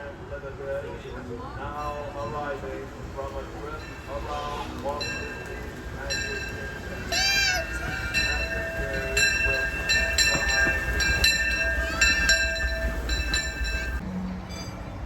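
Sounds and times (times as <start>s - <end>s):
steam train rolling: 0.0s - 15.0s.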